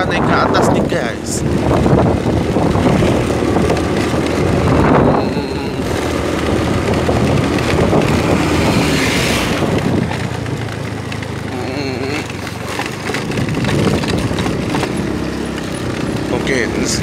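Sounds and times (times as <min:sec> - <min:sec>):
vehicle engine running: 0:00.0 - 0:17.0
wind buffeting microphone: 0:00.0 - 0:17.0.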